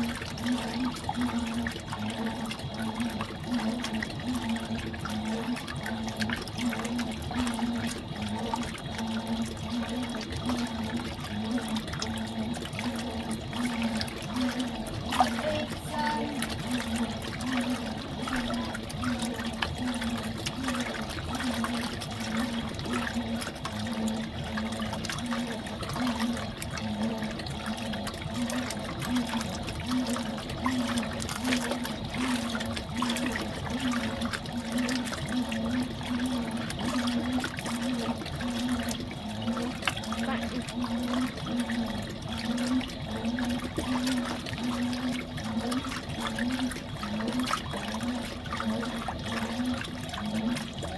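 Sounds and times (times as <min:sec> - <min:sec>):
washing machine motor hum: 0:00.0 - 0:50.9
water sloshing in washing machine: 0:00.0 - 0:50.9.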